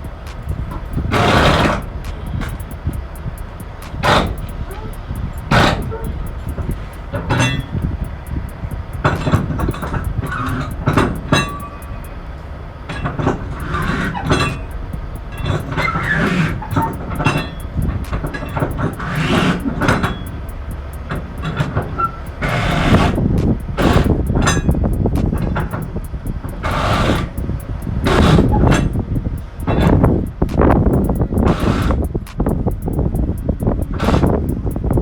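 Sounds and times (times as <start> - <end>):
heavy truck rumbling: 0.0 - 35.0
metallic clanks and rattles: 0.0 - 35.0.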